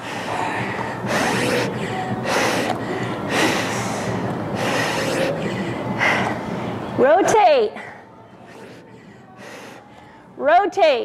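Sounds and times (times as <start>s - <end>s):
person breathing hard: 0.0s - 6.5s, 7.8s - 10.3s.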